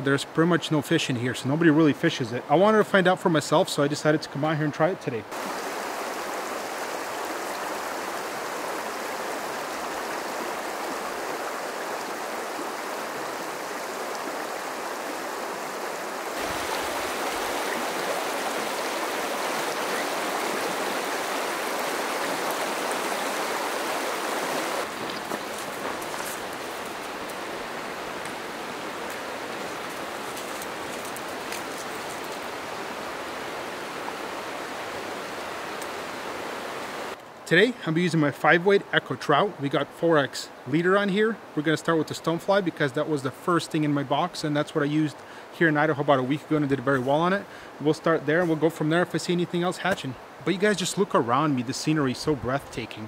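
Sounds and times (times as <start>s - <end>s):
creek water rushing: 0.0s - 53.0s.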